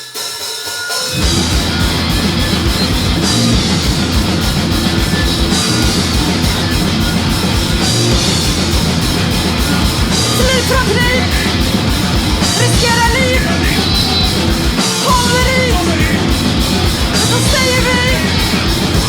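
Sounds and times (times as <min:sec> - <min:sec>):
drums: 0:00.0 - 0:19.0
punk rock band playing: 0:00.0 - 0:19.0
electric guitars: 0:01.1 - 0:19.0.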